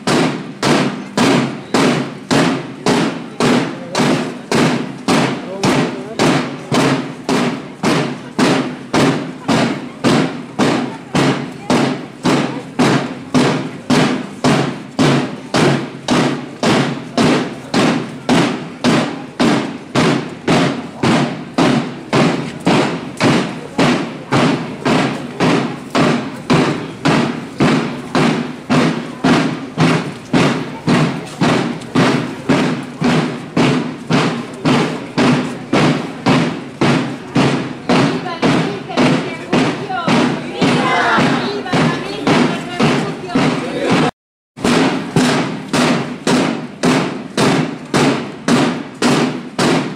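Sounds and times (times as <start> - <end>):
drum beating steadily: 0.0 - 49.9.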